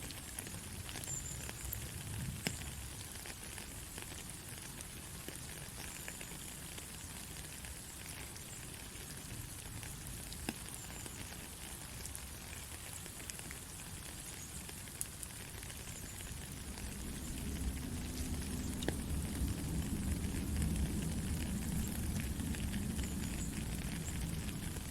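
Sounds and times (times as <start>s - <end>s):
soft rain falling: 0.0s - 24.9s.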